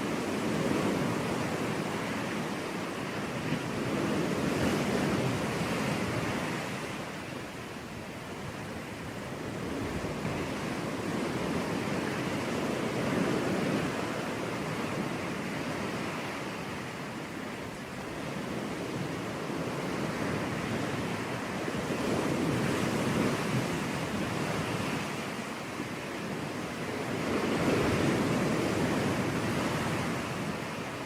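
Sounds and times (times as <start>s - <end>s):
sea waves breaking on beach: 0.0s - 31.0s
wind on microphone: 0.0s - 31.0s.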